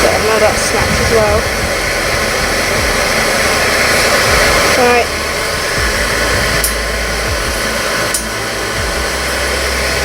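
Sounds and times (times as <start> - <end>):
forge rushing air: 0.0 - 10.0
low hum: 0.0 - 10.0.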